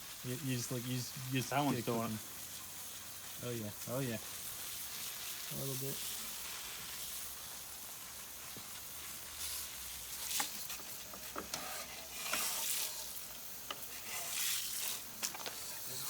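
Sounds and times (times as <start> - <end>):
foaming cleaner fizzing and popping: 0.0 - 16.0.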